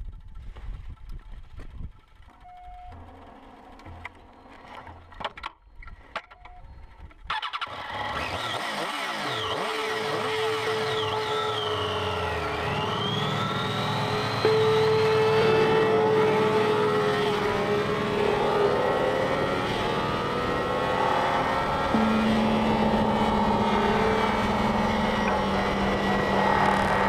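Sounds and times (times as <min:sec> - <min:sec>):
motorcycle engine starting and running: 0:00.0 - 0:27.0.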